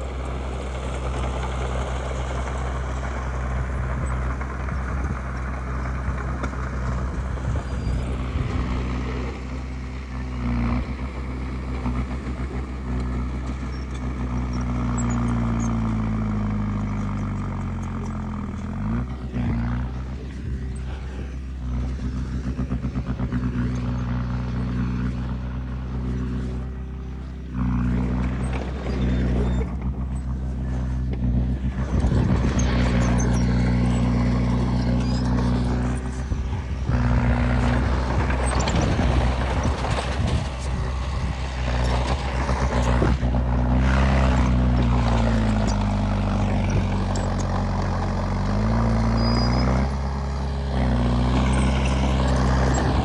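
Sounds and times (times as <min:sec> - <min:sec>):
heavy diesel machinery engines: 0:00.0 - 0:53.0.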